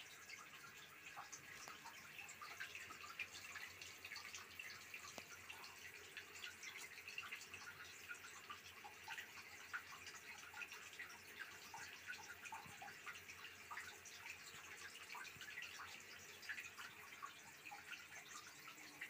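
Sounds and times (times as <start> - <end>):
water dripping in a bathtub: 0.0 - 19.0.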